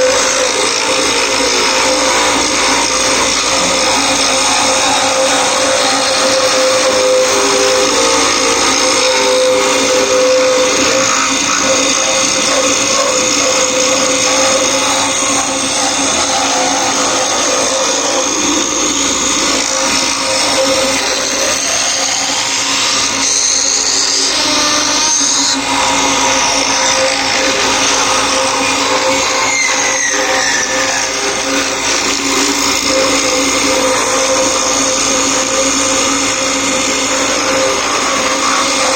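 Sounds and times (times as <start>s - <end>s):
milling machine whine and grind: 0.0s - 38.9s
steady machine hum: 0.0s - 38.9s
whining tones sliding up and down: 0.0s - 38.9s.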